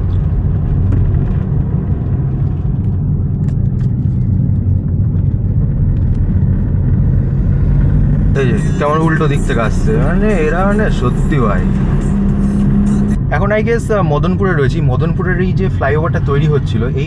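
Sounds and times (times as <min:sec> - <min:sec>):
road and engine rumble in car: 0:00.0 - 0:17.0.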